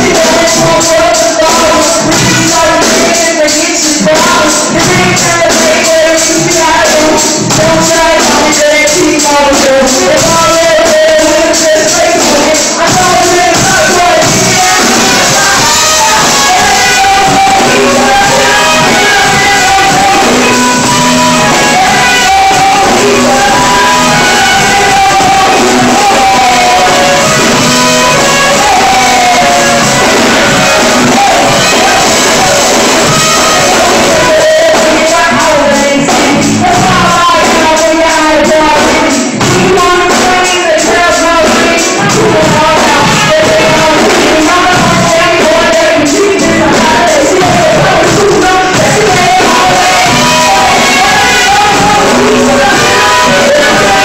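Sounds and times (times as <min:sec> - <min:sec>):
lead singer singing: 0:00.0 - 0:54.0
live band playing: 0:00.0 - 0:54.0.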